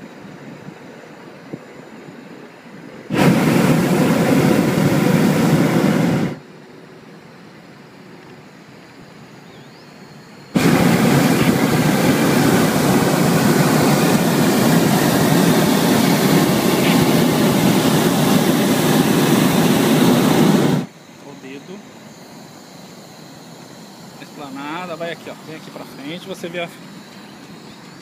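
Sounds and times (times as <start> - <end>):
propane burner roaring: 0.0 - 7.2, 7.9 - 28.0.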